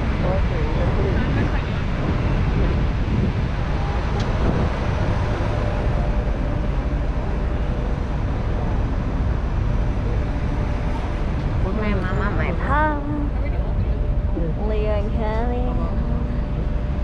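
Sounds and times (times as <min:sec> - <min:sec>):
traffic rumble: 0:00.0 - 0:17.0
wind buffeting microphone: 0:00.0 - 0:17.0.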